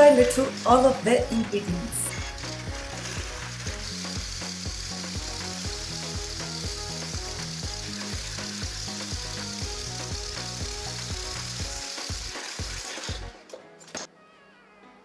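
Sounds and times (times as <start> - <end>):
electric hand mixer whisking eggs: 0.0 - 13.6
background music with steady beat: 0.0 - 14.5.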